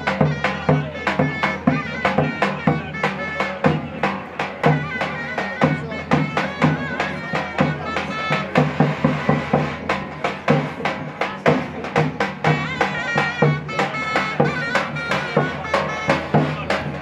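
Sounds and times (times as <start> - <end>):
shrill double-reed pipe melody: 0.0 - 10.6, 11.9 - 17.0
big drum beating: 0.0 - 17.0.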